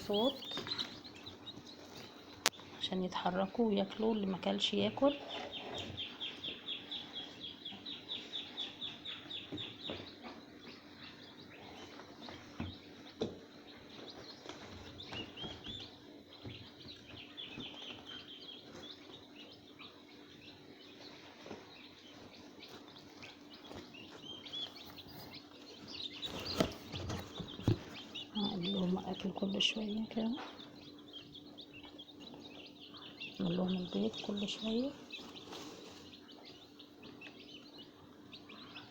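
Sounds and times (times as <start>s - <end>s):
chicks cheeping: 0.0s - 38.9s.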